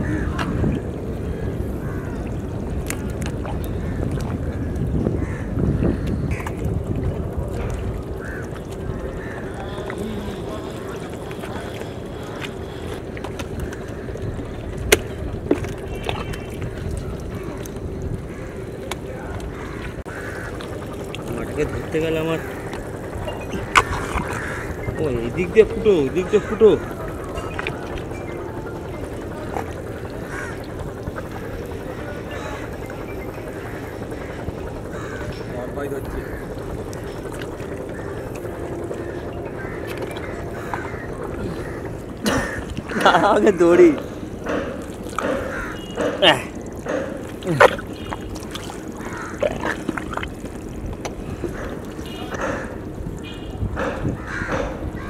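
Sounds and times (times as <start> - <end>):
distant motor hum: 7.8 - 55.0.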